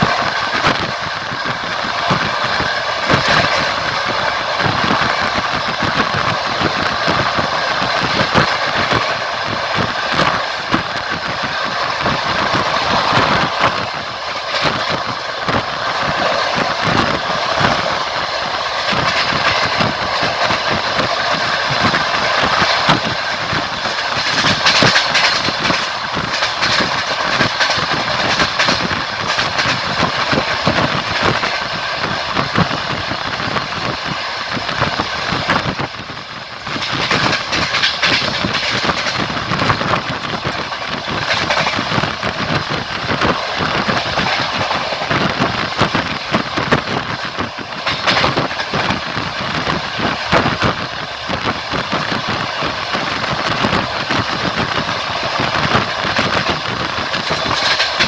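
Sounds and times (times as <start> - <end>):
train running and rattling: 0.0 - 58.0
train wheel clicks and knocks: 0.0 - 58.0.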